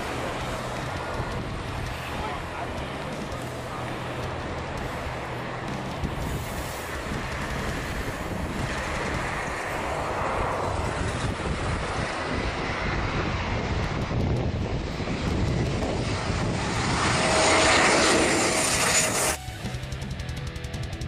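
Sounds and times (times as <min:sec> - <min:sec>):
wind buffeting microphone: 0:00.0 - 0:19.6
faint engine whine: 0:00.0 - 0:21.0
jet airliner engines rumbling: 0:00.0 - 0:21.0.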